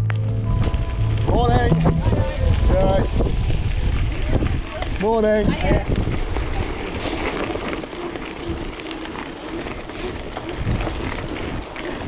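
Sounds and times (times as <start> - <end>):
bicycle tyres on rough ground: 0.0 - 12.0
wind buffeting microphone: 0.4 - 12.0.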